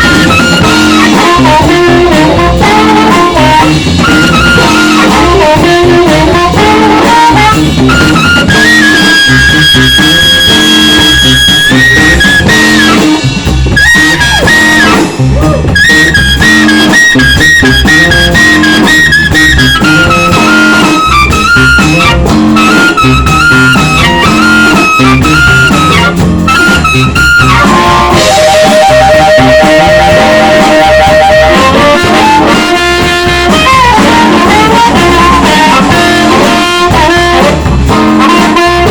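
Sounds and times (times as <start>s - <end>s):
amplified harmonica: 0.0s - 38.9s
electric blues band: 0.0s - 38.9s.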